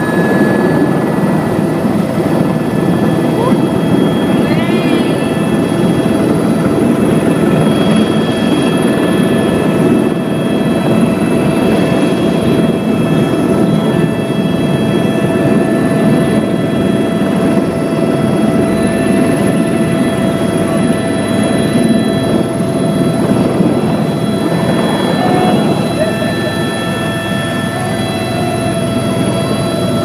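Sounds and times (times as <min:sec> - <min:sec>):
helicopter engine drone: 0:00.0 - 0:30.0
high whine of helicopter rotor: 0:00.0 - 0:30.0.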